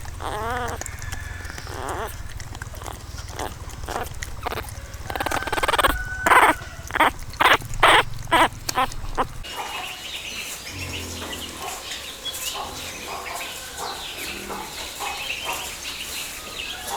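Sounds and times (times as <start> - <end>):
puppies whimpering: 0.0 - 16.9.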